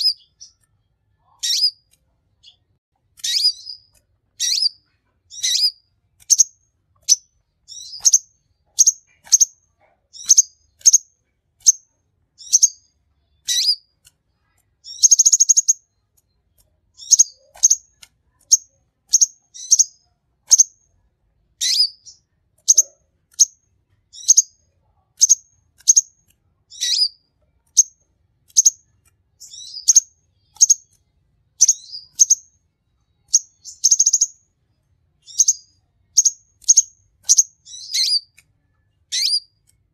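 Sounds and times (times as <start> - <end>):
buzzy bird trill: 0.0 - 2.6, 3.2 - 14.0, 14.8 - 16.0, 17.0 - 20.8, 21.6 - 24.6, 25.2 - 31.0, 31.6 - 32.6, 33.2 - 34.5, 35.2 - 38.4, 39.0 - 39.6
bird chirping: 0.0 - 20.9, 21.6 - 39.9.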